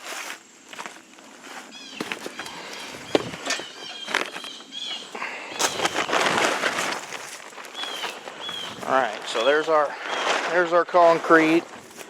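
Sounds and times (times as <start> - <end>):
footsteps outdoors: 0.0 - 12.0
scraping rustle: 0.0 - 12.0
birds chirping: 1.6 - 11.7.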